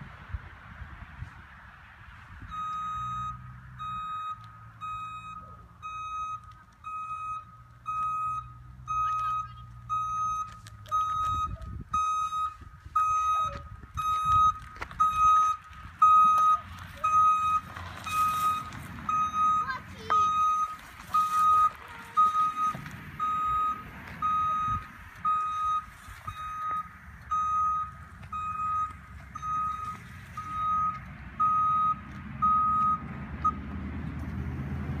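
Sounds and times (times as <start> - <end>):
van reversing alarm beeping: 2.4 - 33.7.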